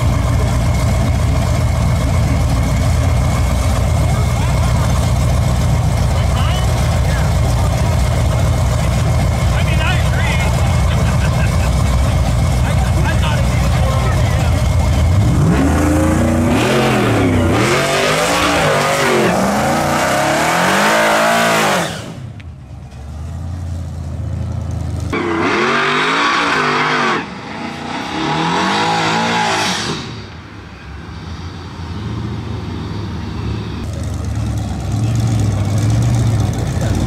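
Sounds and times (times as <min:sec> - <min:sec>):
engines idling: 0:00.0 - 0:25.6, 0:30.2 - 0:37.0
truck engines revving: 0:00.0 - 0:37.0.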